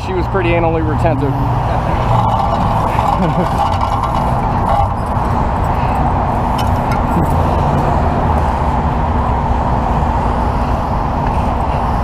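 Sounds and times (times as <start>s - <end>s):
road noise rush: 0.0s - 12.0s
vehicle engine hum: 0.0s - 12.0s.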